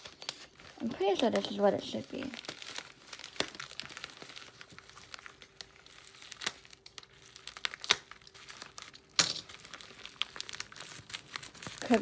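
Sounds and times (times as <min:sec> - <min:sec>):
plastic package crinkling: 0:00.0 - 0:12.0.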